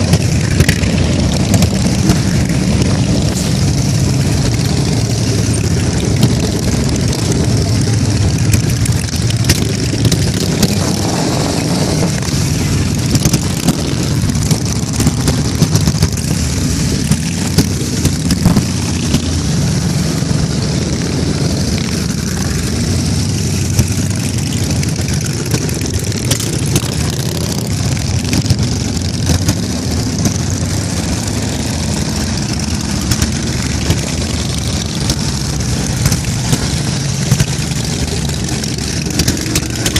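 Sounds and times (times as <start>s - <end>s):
motorcycles rumbling past: 0.0s - 39.9s.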